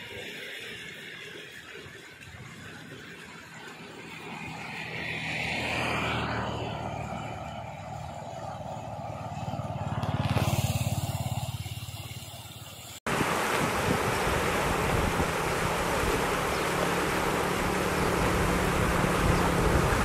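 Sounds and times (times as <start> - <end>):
floodwater rushing: 0.0 - 20.0
low water rumble: 0.0 - 20.0.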